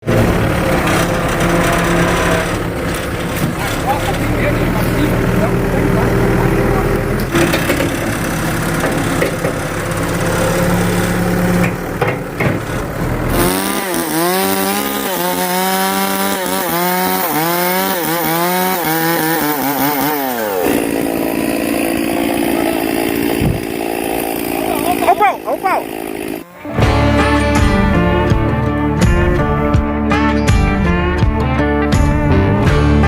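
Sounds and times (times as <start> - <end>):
small engine revving: 0.0 - 28.5.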